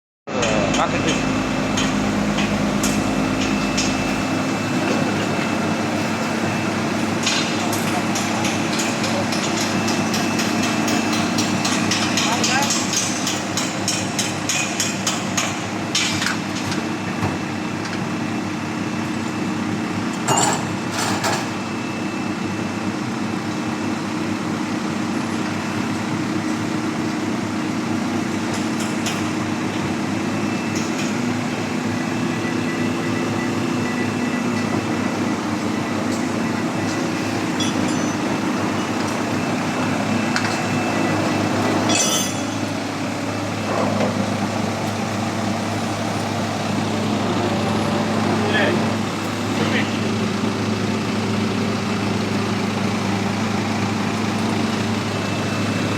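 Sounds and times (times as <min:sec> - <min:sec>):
diesel generator humming: 0:00.3 - 0:55.9.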